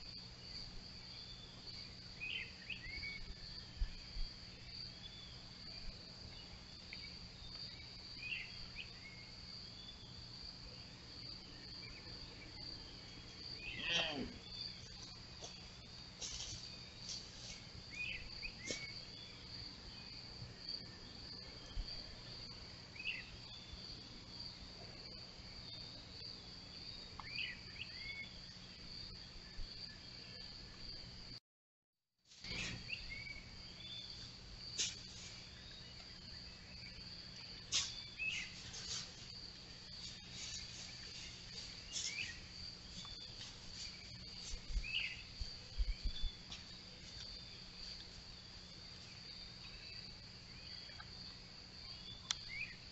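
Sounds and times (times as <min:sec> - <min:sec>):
night insects trilling: 0:00.0 - 0:31.4, 0:32.3 - 0:52.9.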